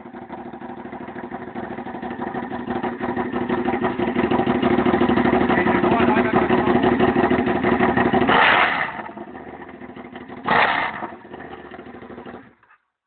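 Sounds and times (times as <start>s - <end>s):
loud motorcycle engine revving: 0.0s - 12.6s.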